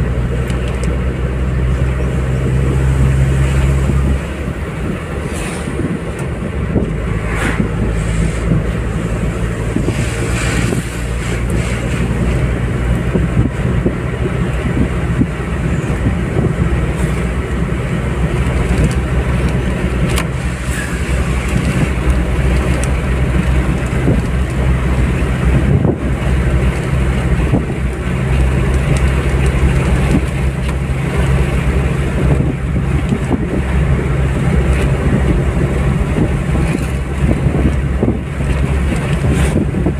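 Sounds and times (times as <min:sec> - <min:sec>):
car engine drone: 0:00.0 - 0:39.9
tyre and road noise: 0:00.0 - 0:39.9.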